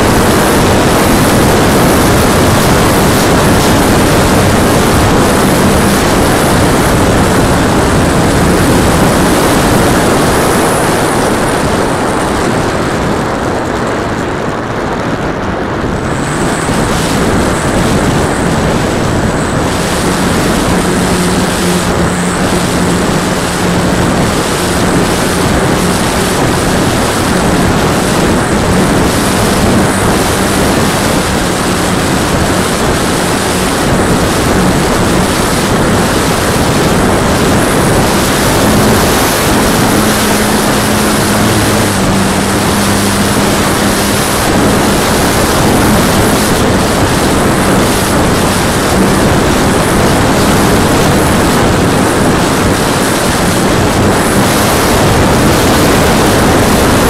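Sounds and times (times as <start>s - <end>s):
propeller drone: 0.0s - 57.0s
wind rushing over microphone: 0.0s - 57.0s.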